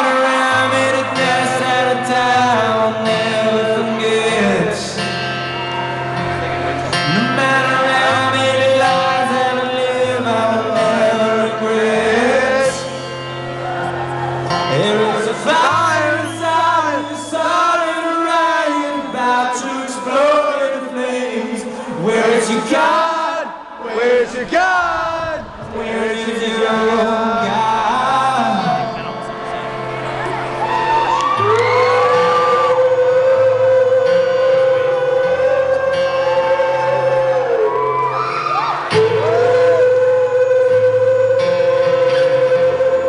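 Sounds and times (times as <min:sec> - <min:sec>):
man singing: 0:00.0 - 0:05.2, 0:06.3 - 0:13.2, 0:14.5 - 0:29.6, 0:31.4 - 0:38.2, 0:38.8 - 0:43.0
strummed acoustic guitar: 0:00.0 - 0:22.8, 0:24.4 - 0:30.7, 0:31.3 - 0:37.7, 0:38.8 - 0:43.0.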